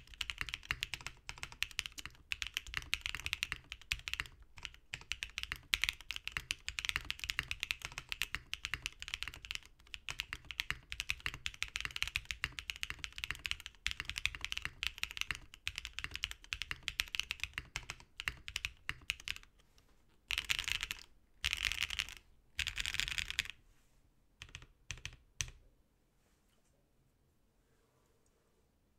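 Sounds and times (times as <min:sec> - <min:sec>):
fast typing on keyboard: 0:00.0 - 0:19.5, 0:20.3 - 0:23.6, 0:24.4 - 0:25.6.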